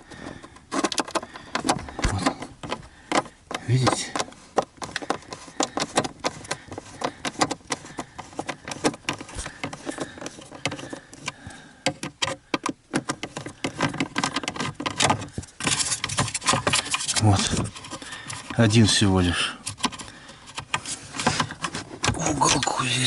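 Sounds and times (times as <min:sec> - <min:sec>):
plastic trim rattling: 0:00.0 - 0:23.0.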